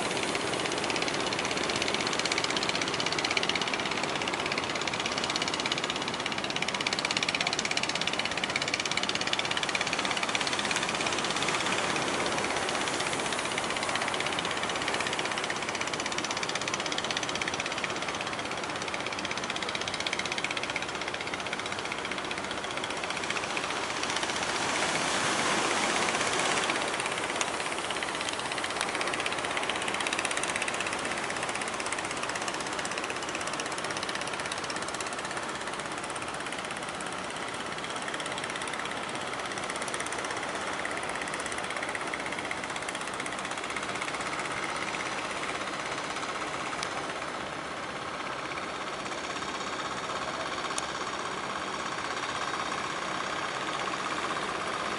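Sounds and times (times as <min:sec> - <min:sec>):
sea and wind rushing: 0:00.0 - 0:19.0, 0:21.9 - 0:47.5
boat diesel engines knocking: 0:00.0 - 0:54.9.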